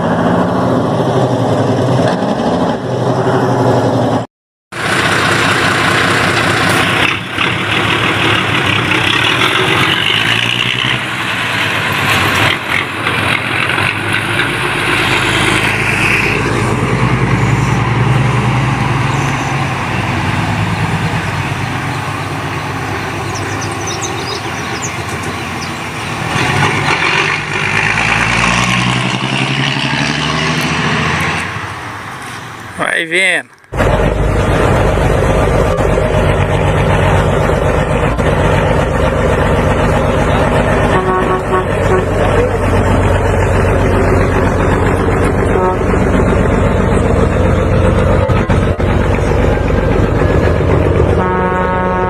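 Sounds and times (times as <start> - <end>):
truck diesel engine running: 2.8 - 52.0.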